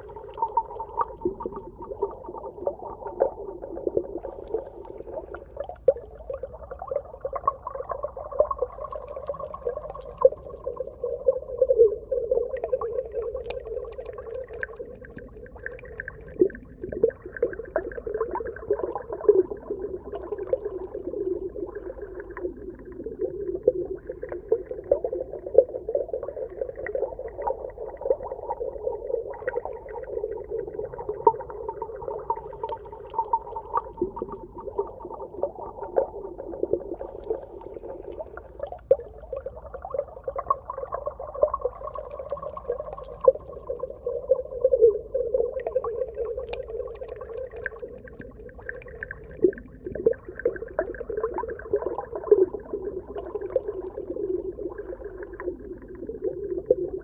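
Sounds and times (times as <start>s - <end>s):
small underwater clicks and crackles: 0.0s - 57.0s
underwater ambience: 0.0s - 57.0s.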